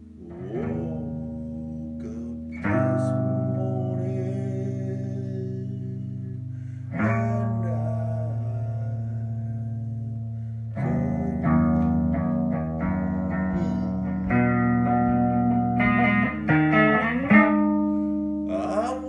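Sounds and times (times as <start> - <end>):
bass: 0.0 - 19.0
guitar playing slow chords: 0.0 - 19.0.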